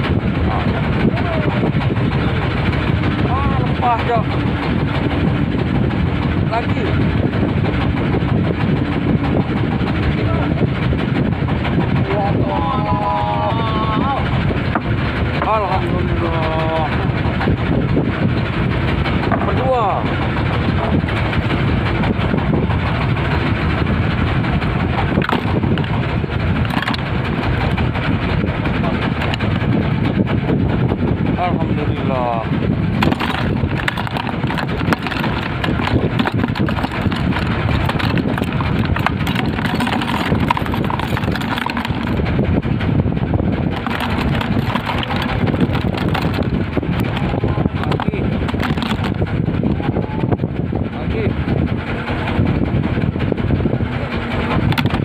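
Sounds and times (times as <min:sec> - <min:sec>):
boat engine idling: 0:00.0 - 0:55.0
gusty crackles: 0:00.0 - 0:55.0
steady low rumble: 0:00.0 - 0:55.0
wind buffeting microphone: 0:00.0 - 0:55.0.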